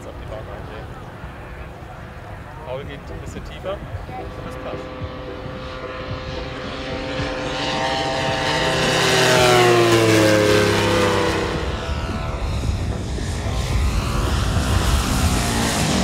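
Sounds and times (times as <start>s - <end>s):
model plane engine fly-by: 0.0s - 16.0s.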